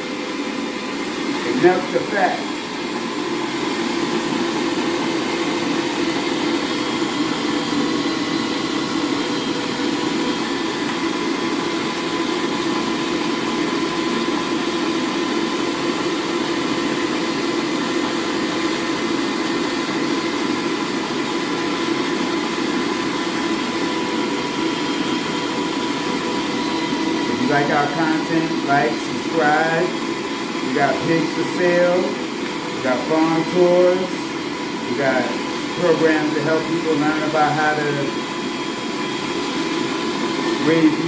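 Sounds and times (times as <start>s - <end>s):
electric meat grinder running: 0.0s - 41.0s.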